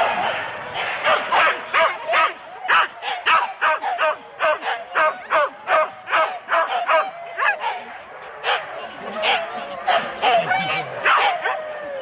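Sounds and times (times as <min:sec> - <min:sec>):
dogs barking and yipping: 0:00.3 - 0:12.0.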